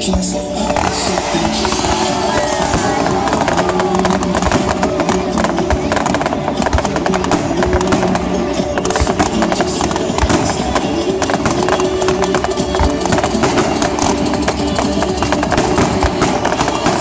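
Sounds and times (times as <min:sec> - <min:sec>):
fireworks crackling and popping: 0:00.0 - 0:17.0
pop music playing: 0:00.0 - 0:17.0.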